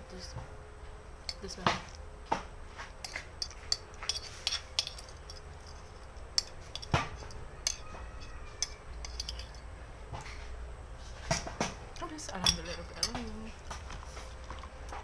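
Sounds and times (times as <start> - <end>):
utensils clinking against bowl: 1.2 - 2.1, 2.7 - 10.4, 11.1 - 15.0.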